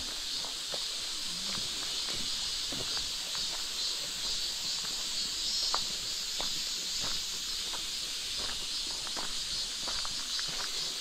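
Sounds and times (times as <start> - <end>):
footsteps on gravel: 0.0 - 11.0
insects chirping: 0.0 - 11.0.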